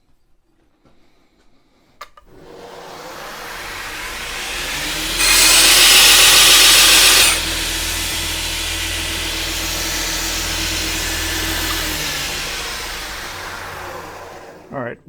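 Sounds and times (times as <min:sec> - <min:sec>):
belt grinder grinding steel: 0:02.3 - 0:14.8.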